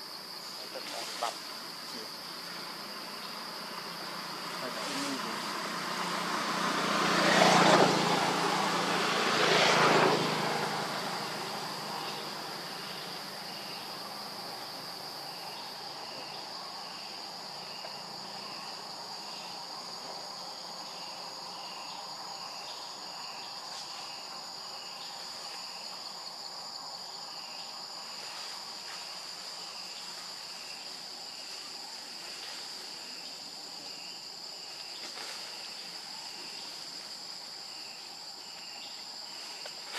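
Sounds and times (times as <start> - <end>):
insect chirps: 0.0 - 39.9
insects buzzing drone: 0.0 - 39.9.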